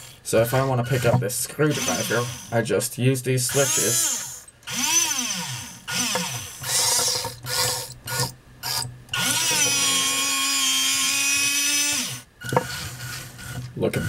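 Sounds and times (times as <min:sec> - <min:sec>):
small electric motors whining: 0:00.0 - 0:02.6, 0:03.5 - 0:14.0.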